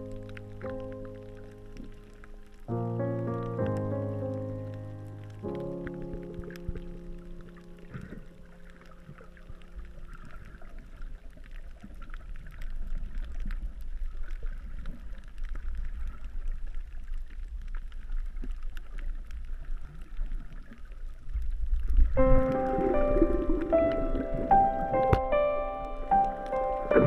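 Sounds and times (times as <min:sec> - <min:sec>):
faint crackling clicks: 0:00.0 - 0:27.0
underwater rumble: 0:00.0 - 0:27.0.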